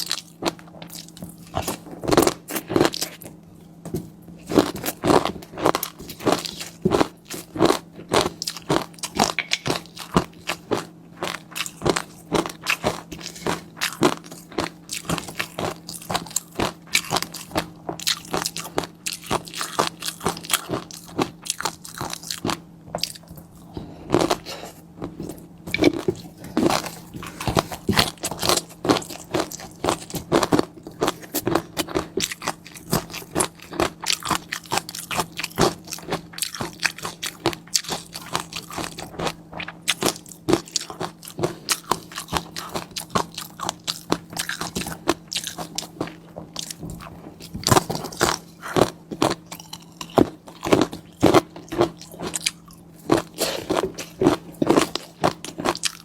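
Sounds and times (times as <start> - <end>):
faint low hum: 0.0 - 56.0
person chewing crunchy food: 0.0 - 56.0.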